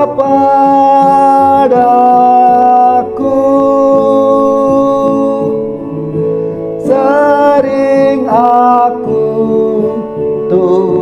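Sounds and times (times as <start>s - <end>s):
instrumental accompaniment: 0.0s - 11.0s
man singing a hymn: 0.0s - 11.0s.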